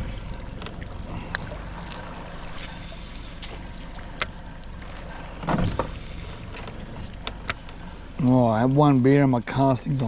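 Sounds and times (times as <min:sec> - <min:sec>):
boat motor running: 0:00.0 - 0:10.0
light water noise: 0:00.0 - 0:10.0.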